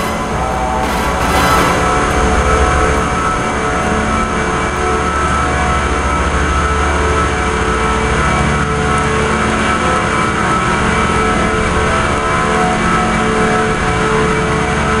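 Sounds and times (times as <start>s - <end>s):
machinery whirring and humming: 0.0s - 15.0s.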